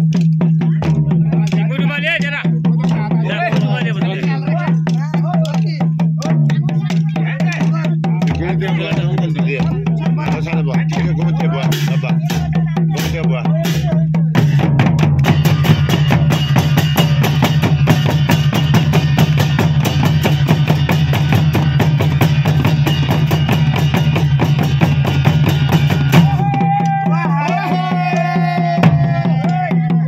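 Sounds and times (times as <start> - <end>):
drums beaten in fast rhythm: 0.0 - 30.0.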